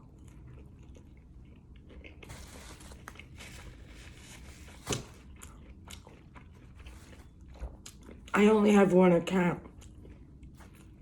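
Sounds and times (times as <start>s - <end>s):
crunching of eating food: 0.0s - 8.4s, 9.6s - 11.0s.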